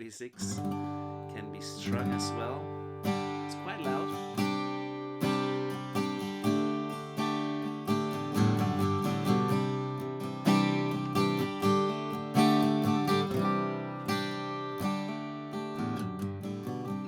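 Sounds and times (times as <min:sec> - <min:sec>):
acoustic guitar strumming: 0:00.4 - 0:17.0.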